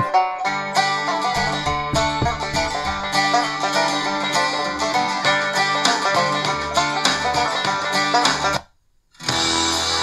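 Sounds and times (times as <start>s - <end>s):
banjo country music on radio: 0.0s - 10.0s.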